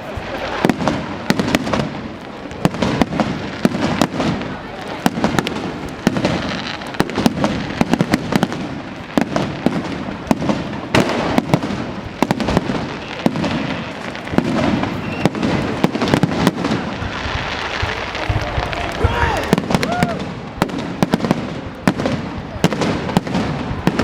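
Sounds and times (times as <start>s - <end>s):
fireworks crackling pops and bangs: 0.0s - 24.0s
hiss and rumble of bursting shells: 0.1s - 24.0s.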